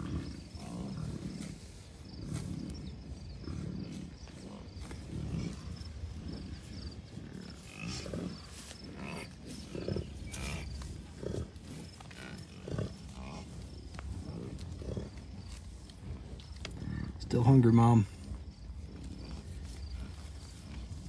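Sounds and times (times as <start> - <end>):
bison grunting: 0.0 - 21.0
wind buffeting microphone: 0.0 - 21.0.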